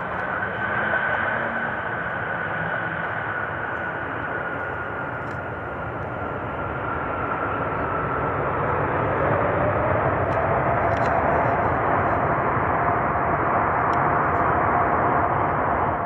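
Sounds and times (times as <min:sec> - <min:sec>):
jet engines with high whine: 0:00.0 - 0:16.0.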